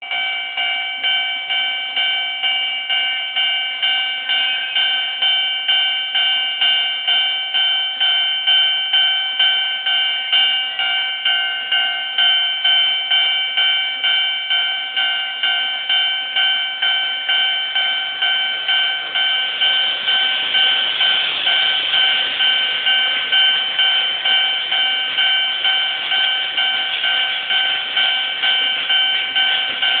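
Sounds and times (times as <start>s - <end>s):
level crossing warning bell: 0.0s - 30.0s.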